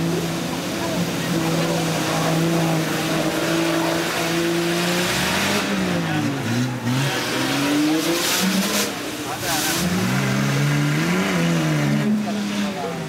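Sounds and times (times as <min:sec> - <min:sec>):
engine revving in mud: 0:00.0 - 0:13.0
mud and water splashing: 0:00.0 - 0:13.0.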